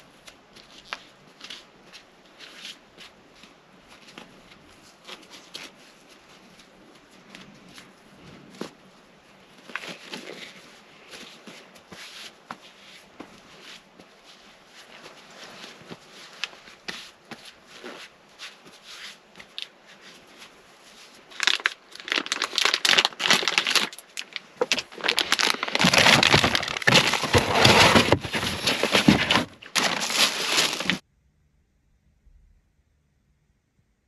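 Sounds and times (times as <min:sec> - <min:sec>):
material crinkling and crunching: 0:00.0 - 0:31.0.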